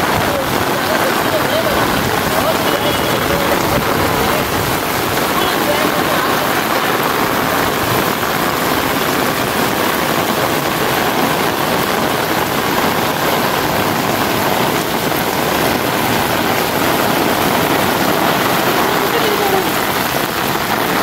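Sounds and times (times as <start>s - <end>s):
heavy rain on concrete roof: 0.0s - 21.0s.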